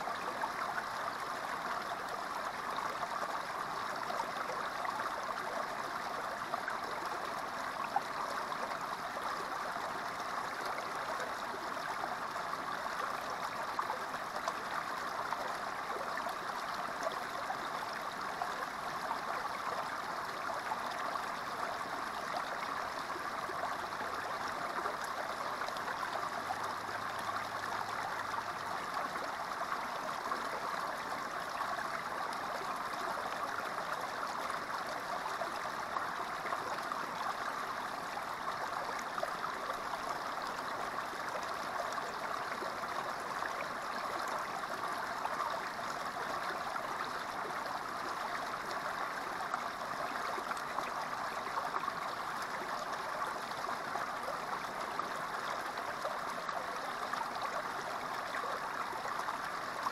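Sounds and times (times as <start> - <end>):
creek water babbling over rocks: 0.0 - 59.9.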